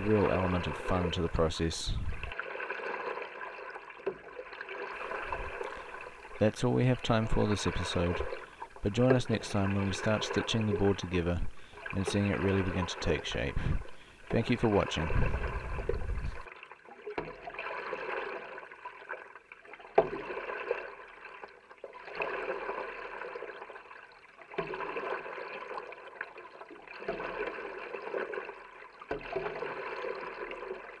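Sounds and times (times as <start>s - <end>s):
paddle splashing through water: 0.0s - 31.0s
trickling water: 0.0s - 31.0s.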